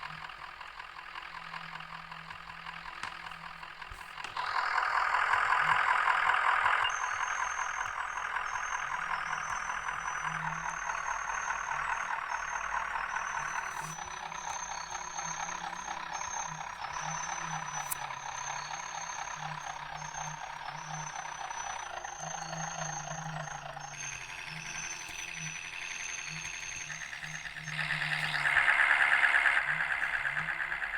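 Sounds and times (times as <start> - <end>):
bus engine and road noise: 0.0 - 30.9.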